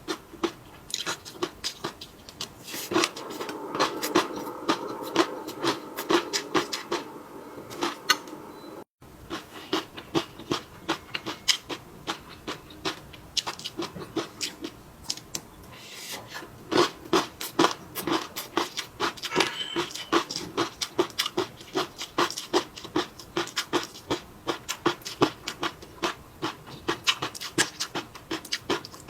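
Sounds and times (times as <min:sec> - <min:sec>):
person chewing with wet mouth sounds: 0:00.0 - 0:08.4, 0:09.3 - 0:29.0.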